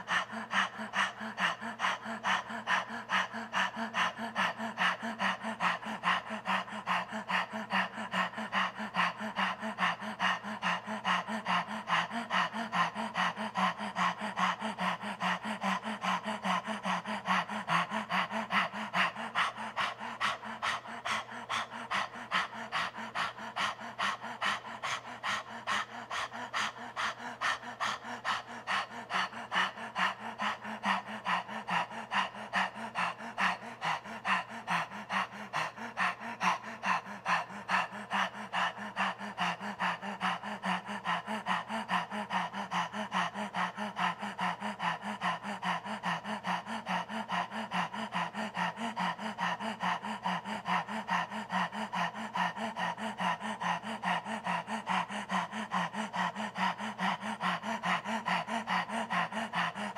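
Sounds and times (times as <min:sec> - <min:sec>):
man panting rapidly: 0:00.0 - 0:59.9.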